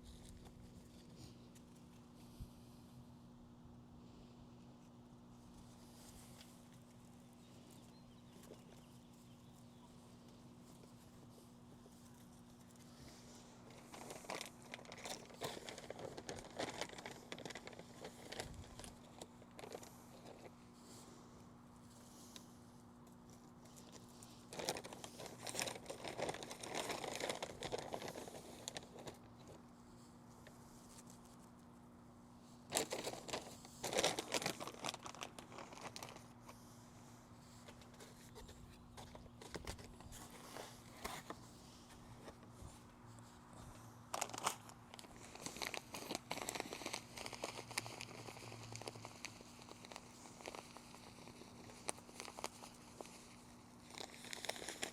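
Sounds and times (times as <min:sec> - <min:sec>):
crinkling and crackling: 0:00.0 - 0:02.8, 0:04.0 - 0:54.9.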